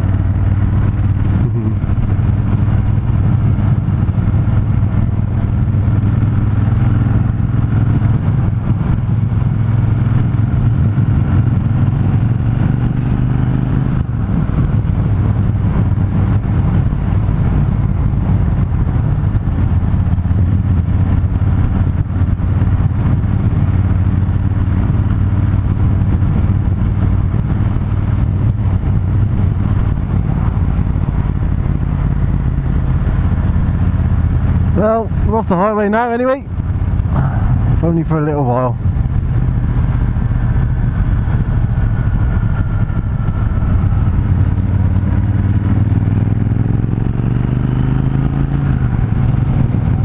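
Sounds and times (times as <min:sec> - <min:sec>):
motorcycle engine cruising: 0:00.0 - 0:50.0
wind rush over microphone: 0:00.0 - 0:50.0.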